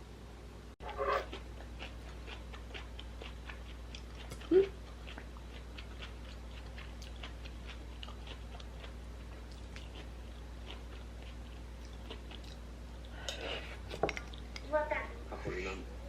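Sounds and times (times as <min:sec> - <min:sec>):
person chewing food: 0:00.8 - 0:14.6.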